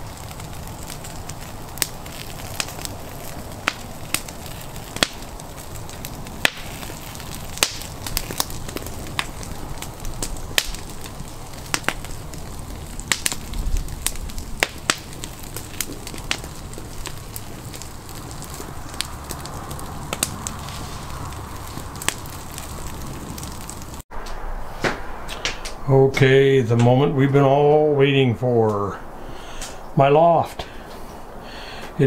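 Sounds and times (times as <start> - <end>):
sharp fire pops: 0.0 - 27.1
campfire crackling: 0.0 - 32.0
low rush of burning: 0.0 - 32.0.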